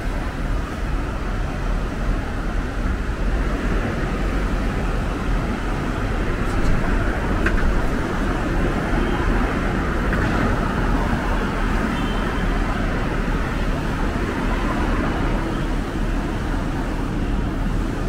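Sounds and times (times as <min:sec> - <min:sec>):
constant low rumble: 0:00.0 - 0:18.0
road traffic passing: 0:00.0 - 0:18.0.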